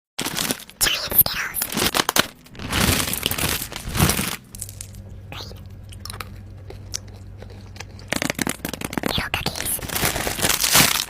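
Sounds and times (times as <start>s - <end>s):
biting and chewing candy: 0.2s - 11.0s
faint steady hum: 0.2s - 11.0s.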